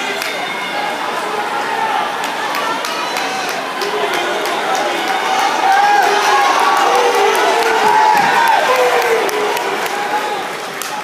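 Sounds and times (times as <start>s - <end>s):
crowd cheering and yelling: 0.0s - 11.0s.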